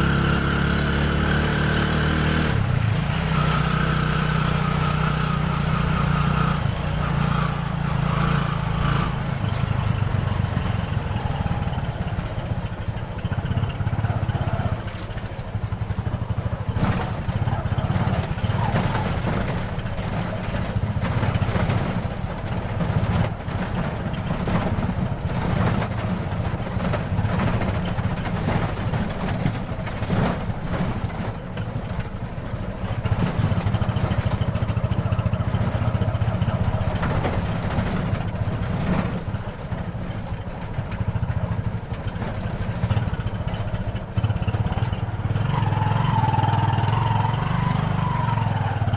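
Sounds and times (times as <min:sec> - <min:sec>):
motorcycle engine running: 0:00.0 - 0:48.9
vehicle knocks and rattles: 0:06.7 - 0:48.9.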